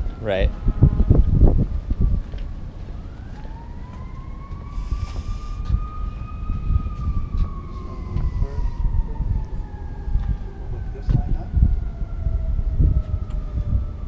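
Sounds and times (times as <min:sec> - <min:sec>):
emergency vehicle siren wailing: 0:00.0 - 0:14.0
wind rumble on microphone: 0:00.0 - 0:14.0.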